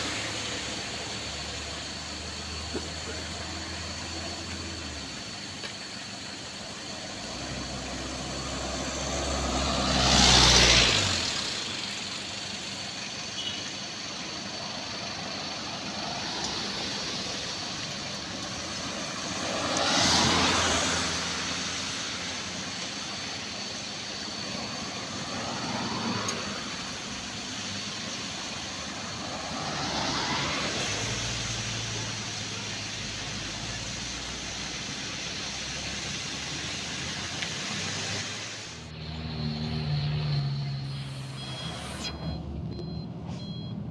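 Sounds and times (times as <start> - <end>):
low engine hum: 0.0 - 43.9
vehicles passing: 0.0 - 43.9.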